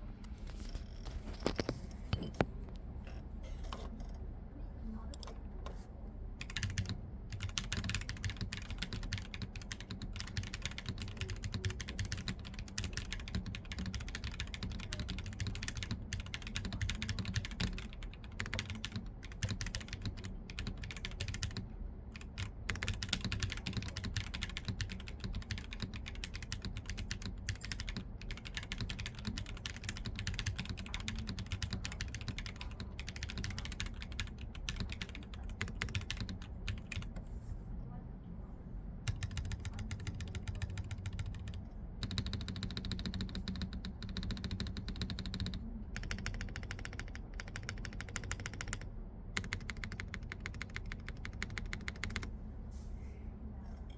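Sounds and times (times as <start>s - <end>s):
low steady hum: 0.0s - 53.9s
mechanical keyboard typing: 6.4s - 37.2s, 39.1s - 52.3s.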